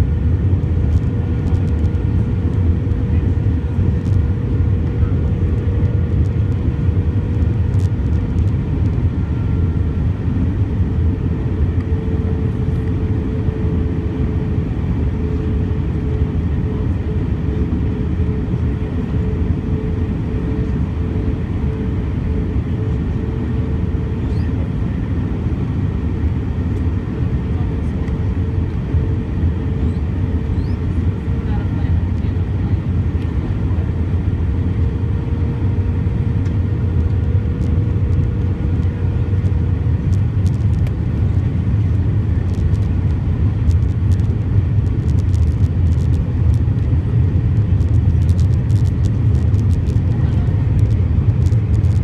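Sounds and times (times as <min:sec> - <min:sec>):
airliner cabin engine rumble: 0:00.0 - 0:52.0
steady hum: 0:00.0 - 0:52.0.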